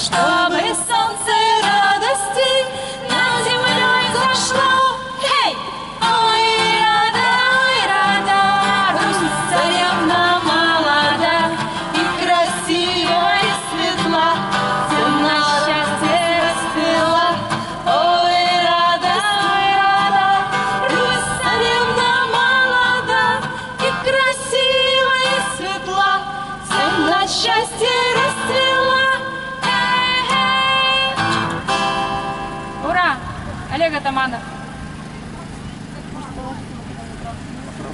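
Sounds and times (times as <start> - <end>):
woman singing: 0.0 - 31.3.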